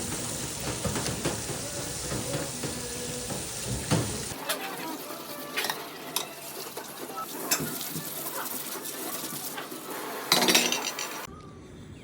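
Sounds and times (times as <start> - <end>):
food sizzling in a frying pan: 0.0 - 11.3
metal utensil scraping a pan: 0.8 - 11.3.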